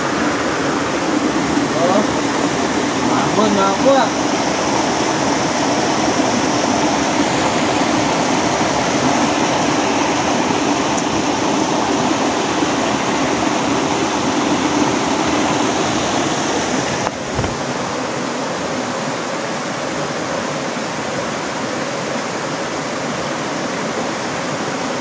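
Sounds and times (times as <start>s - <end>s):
creek water rushing over rocks: 0.0s - 25.0s.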